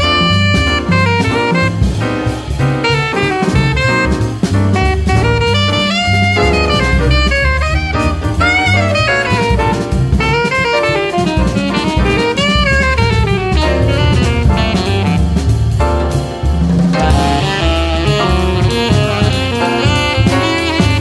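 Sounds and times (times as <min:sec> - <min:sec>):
jazz band piano bass and drums: 0:00.0 - 0:21.0
saxophone jazz solo: 0:00.0 - 0:21.0.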